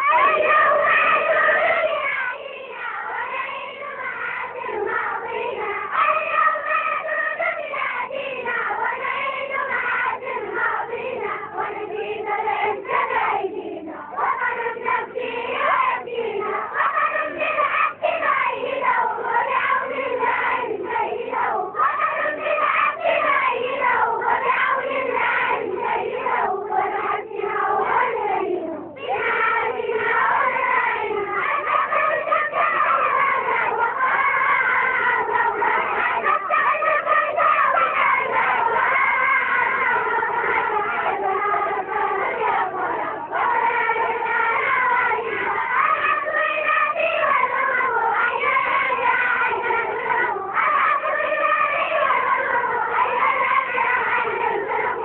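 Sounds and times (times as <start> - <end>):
children singing together: 0.0 - 55.0.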